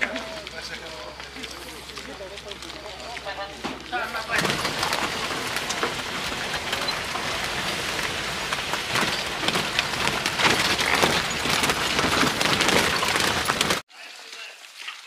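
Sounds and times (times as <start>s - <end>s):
rain on vehicle roof: 0.0s - 13.8s.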